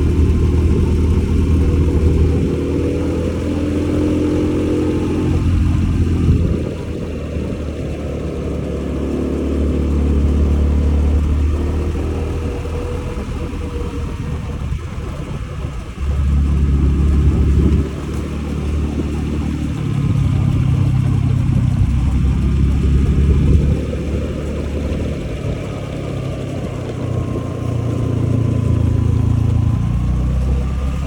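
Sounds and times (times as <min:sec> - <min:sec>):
scooter engine running: 0:00.0 - 0:31.0
wind rumble on microphone: 0:00.0 - 0:31.0.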